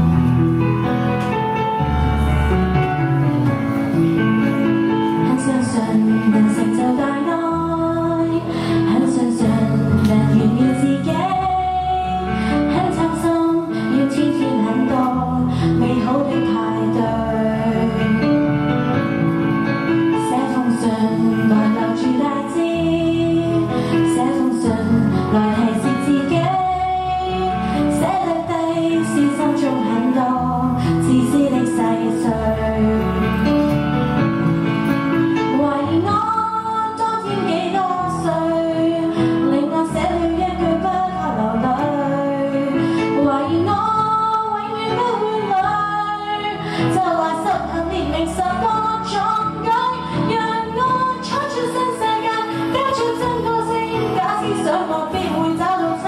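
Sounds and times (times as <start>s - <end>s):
karaoke backing track: 0.0s - 56.0s
woman singing into a microphone: 5.0s - 18.8s, 20.1s - 34.0s, 35.4s - 56.0s.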